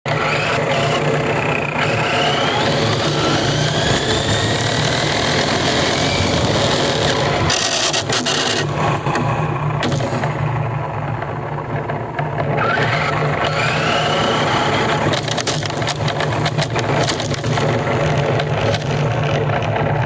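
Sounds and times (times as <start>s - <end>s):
radio-controlled car running: 0.1s - 10.5s, 11.2s - 20.0s
motor whine rising in pitch: 0.1s - 11.2s, 12.1s - 18.7s.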